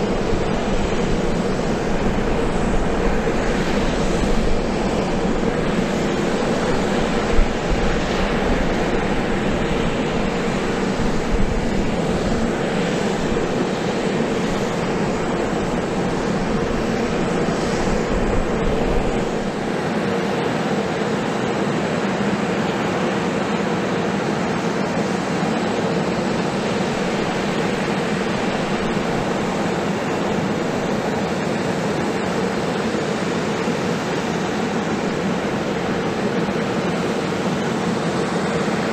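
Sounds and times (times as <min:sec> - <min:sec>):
aircraft engine hum: 0:00.0 - 0:38.9.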